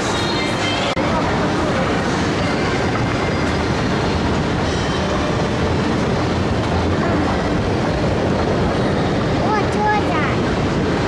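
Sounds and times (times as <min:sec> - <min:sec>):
moving walkway rumble: 0:00.0 - 0:11.0.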